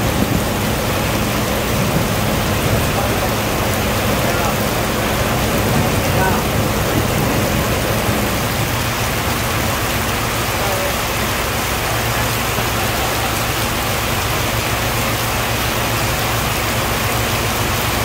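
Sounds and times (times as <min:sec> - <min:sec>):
diesel engine droning: 0:00.0 - 0:18.0
heavy rain pouring: 0:00.0 - 0:18.0.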